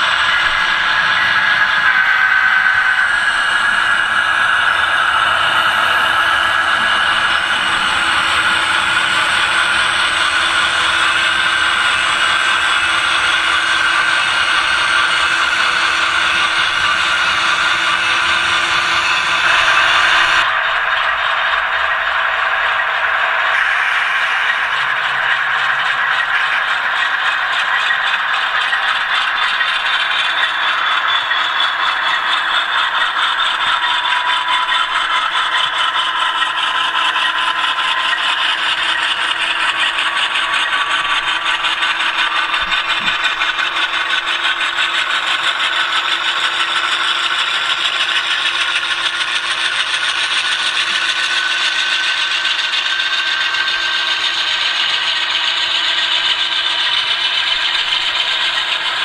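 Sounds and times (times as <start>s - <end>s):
model train wheels rattling: 0.0s - 59.0s
thin motor whine: 0.0s - 59.0s.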